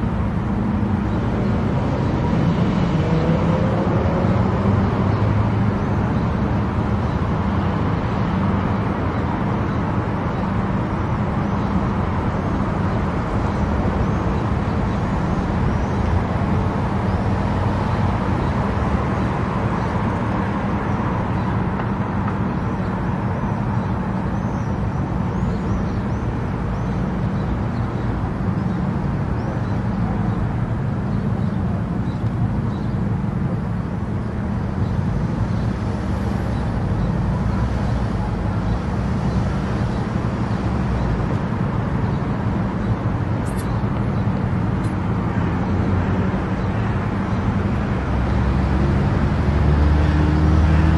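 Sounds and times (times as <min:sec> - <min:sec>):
car tyre and engine drone: 0:00.0 - 0:50.9.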